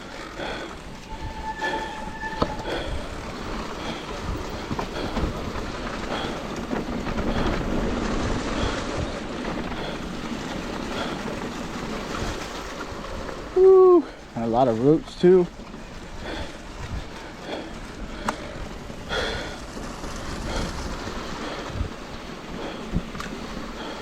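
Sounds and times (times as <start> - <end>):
wind noise on microphone: 0.0 - 13.8, 15.8 - 24.0
bike tyre and drivetrain rattle: 0.0 - 24.0
wheels knocking over roots: 2.7 - 24.0.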